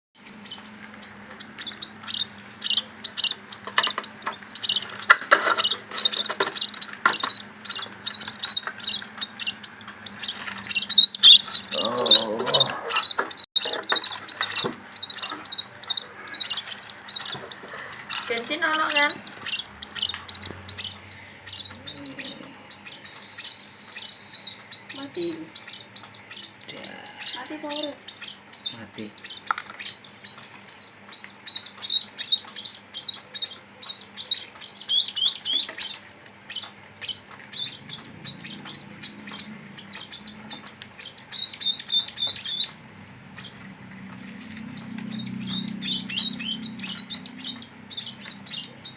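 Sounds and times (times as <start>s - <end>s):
chicks chirping: 0.2s - 48.9s.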